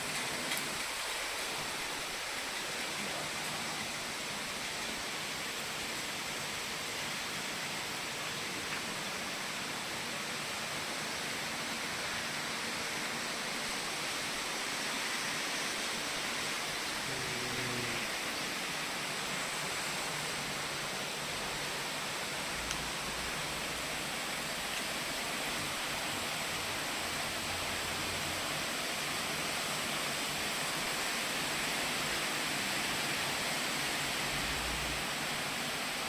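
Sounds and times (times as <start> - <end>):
heavy rain pouring: 0.0 - 36.0.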